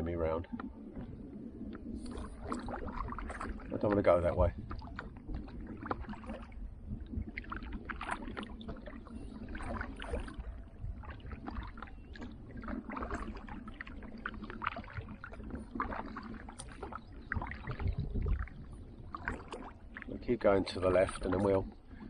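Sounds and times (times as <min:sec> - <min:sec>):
kayak paddle splashing: 0:00.0 - 0:22.0
water slapping hull: 0:00.0 - 0:22.0
wind rumble on microphone: 0:00.0 - 0:22.0.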